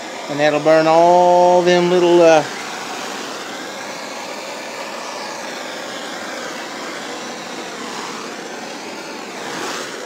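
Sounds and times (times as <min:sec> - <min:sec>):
blowtorch flame hissing: 0:00.0 - 0:10.0.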